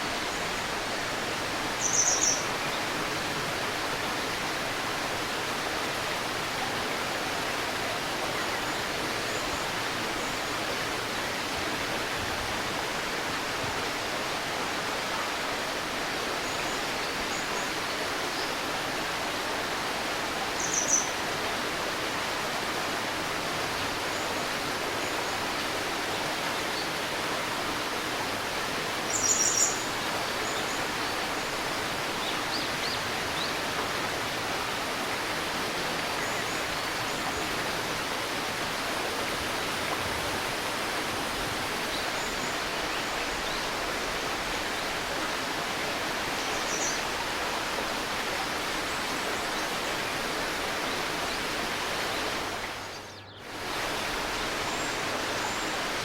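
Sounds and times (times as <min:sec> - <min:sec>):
river babbling: 0:00.0 - 0:56.0.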